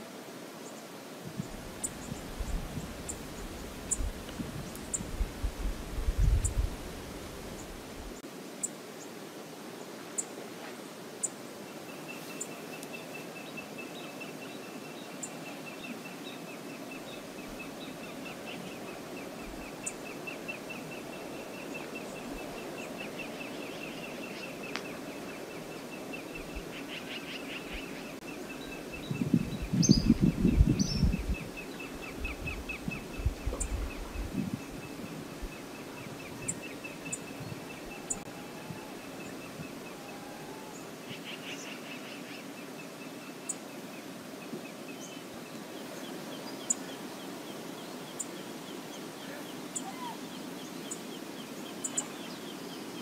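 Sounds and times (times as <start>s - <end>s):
moving water hiss: 0.0s - 53.0s.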